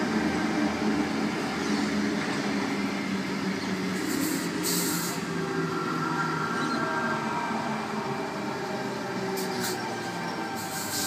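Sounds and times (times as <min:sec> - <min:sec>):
train rolling with low hum: 0:00.0 - 0:11.0.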